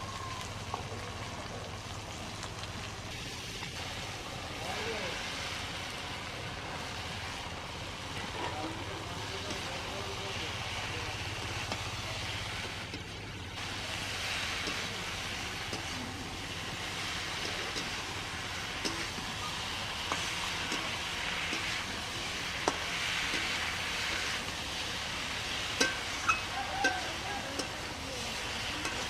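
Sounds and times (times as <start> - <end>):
curry sizzling in a pan: 0.0 - 29.0.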